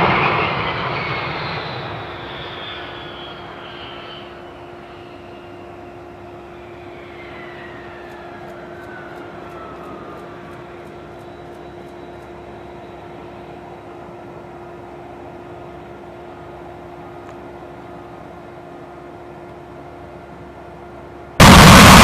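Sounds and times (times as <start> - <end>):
jet engine rushing and whine: 0.0 - 22.0
steady low hum: 0.0 - 22.0.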